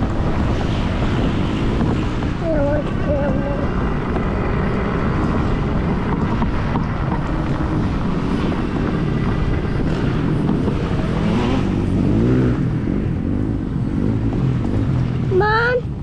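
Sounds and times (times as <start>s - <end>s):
vehicle engine running: 0.0s - 16.0s
wind noise on microphone: 0.0s - 16.0s.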